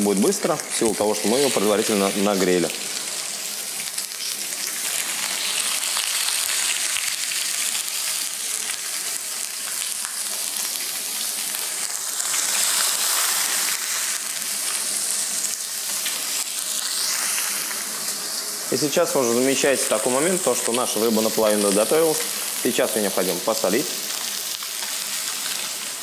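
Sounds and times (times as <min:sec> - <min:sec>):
fish frying on a grill pan: 0:00.0 - 0:26.0.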